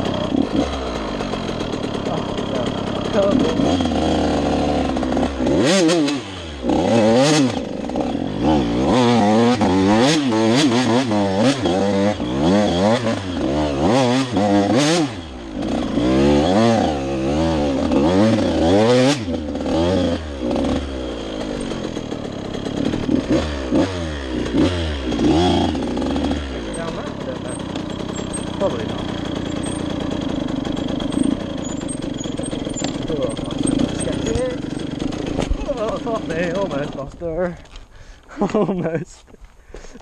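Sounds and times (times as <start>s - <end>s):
dirt bike engine revving: 0.0s - 37.6s.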